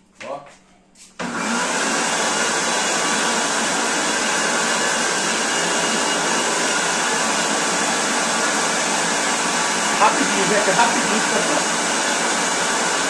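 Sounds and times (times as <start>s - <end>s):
blender whirring: 1.2s - 13.0s.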